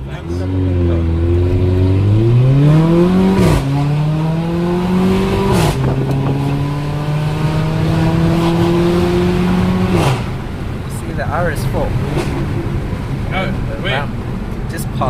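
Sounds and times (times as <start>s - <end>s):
exhaust crack at upshift: 0.0s - 14.8s
car engine accelerating hard: 0.0s - 15.0s.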